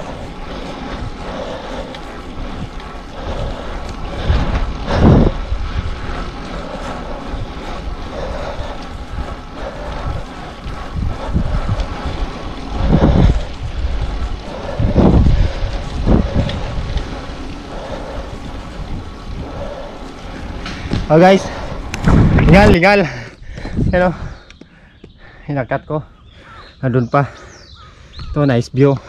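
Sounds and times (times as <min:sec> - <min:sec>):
wind rushing over microphone: 0:00.0 - 0:25.2.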